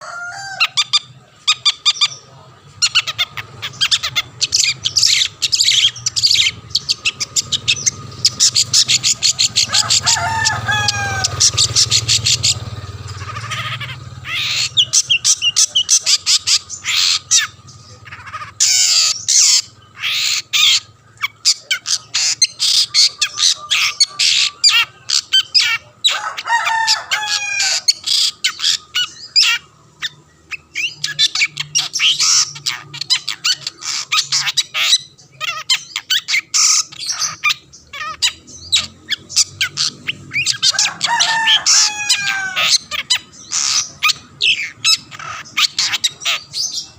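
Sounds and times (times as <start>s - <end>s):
bird chattering and squawking: 0.0s - 46.9s.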